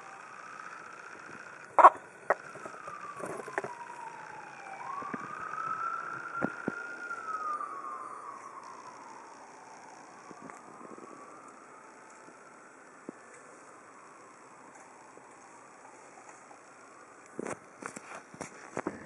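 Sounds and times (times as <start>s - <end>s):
siren wailing: 0.0s - 17.2s.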